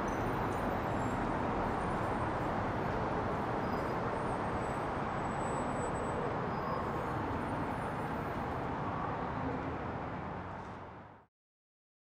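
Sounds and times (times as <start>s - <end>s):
road traffic hum: 0.0s - 11.2s.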